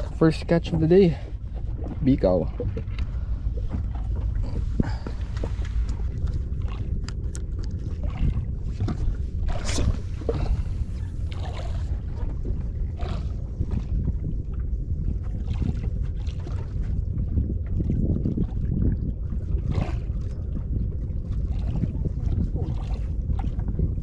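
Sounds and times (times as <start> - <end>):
water against boat hull: 0.0 - 24.0
wind on microphone: 0.0 - 24.0.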